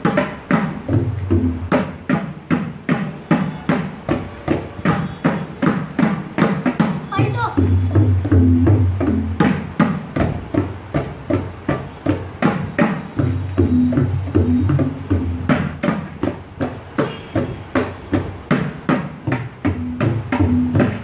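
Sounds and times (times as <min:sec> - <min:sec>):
tabla drums playing: 0:00.0 - 0:21.0.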